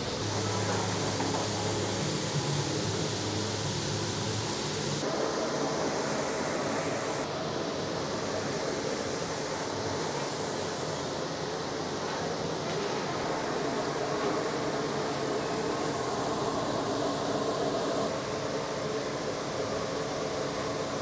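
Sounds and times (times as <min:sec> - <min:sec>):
kitchen fan rushing: 0:00.0 - 0:21.0.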